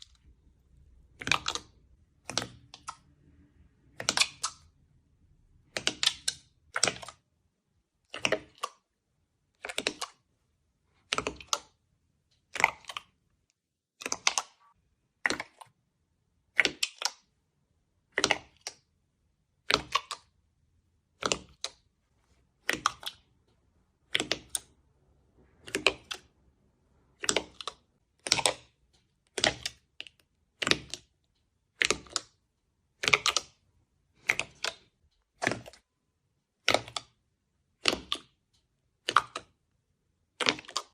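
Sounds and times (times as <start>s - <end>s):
slime squishing by hand: 0.0s - 40.9s.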